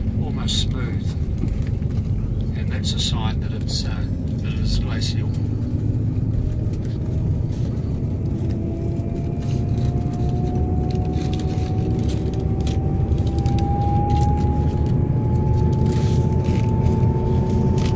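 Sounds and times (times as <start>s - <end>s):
thin rising whine: 0.0s - 17.9s
vehicle engine and road rumble: 0.0s - 17.9s.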